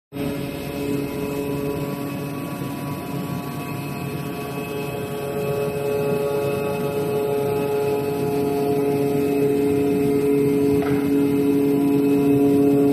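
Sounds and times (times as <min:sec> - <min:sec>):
cutting machine humming: 0:00.2 - 0:12.9
machine whining tones: 0:00.2 - 0:12.9.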